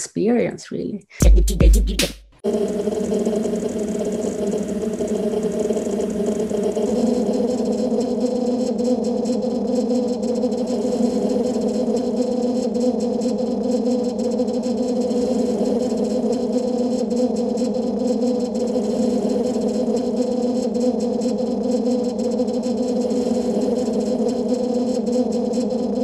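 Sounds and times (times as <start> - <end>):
electronic drone with hum: 2.4 - 26.0.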